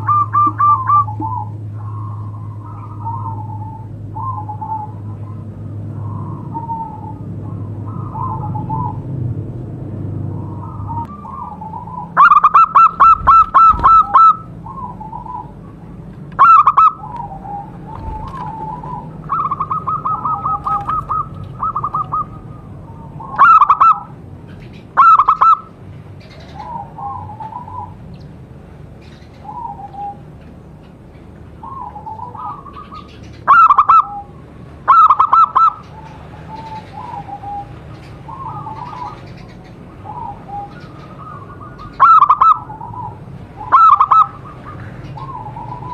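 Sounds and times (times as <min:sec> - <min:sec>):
fainter lower dove coos: 0:00.0 - 0:09.1, 0:10.3 - 0:24.2, 0:31.6 - 0:45.9
dove cooing loudly: 0:00.0 - 0:09.2, 0:10.1 - 0:45.9.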